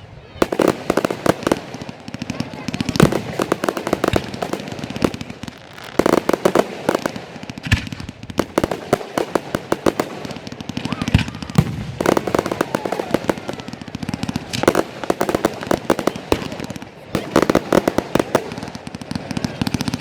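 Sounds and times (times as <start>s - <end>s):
fireworks cracking and banging: 0.0s - 20.0s.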